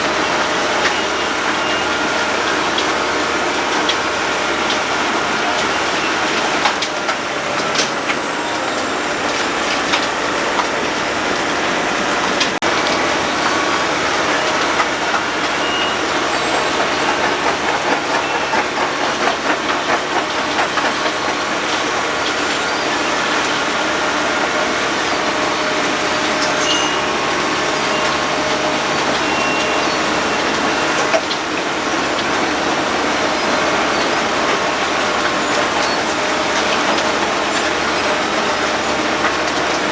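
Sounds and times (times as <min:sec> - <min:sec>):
road planer milling asphalt: 0:00.0 - 0:39.9.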